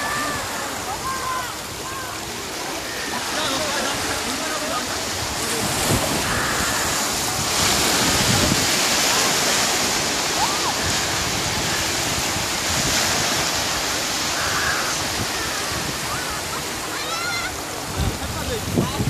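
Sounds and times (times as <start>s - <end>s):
waves washing up beach: 0.0s - 19.0s.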